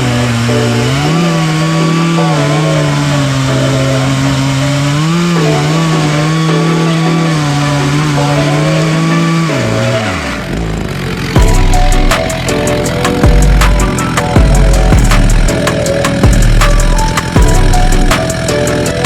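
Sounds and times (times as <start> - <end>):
chainsaw cutting log: 0.0 - 19.0.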